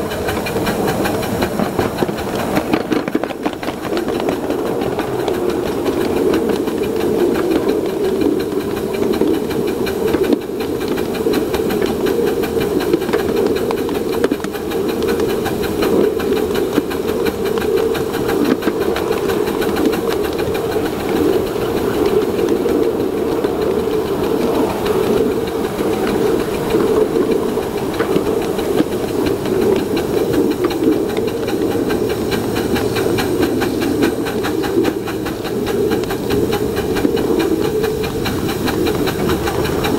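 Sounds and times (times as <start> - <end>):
steam hissing: 0.0 - 39.9
steam locomotive running: 0.0 - 39.9.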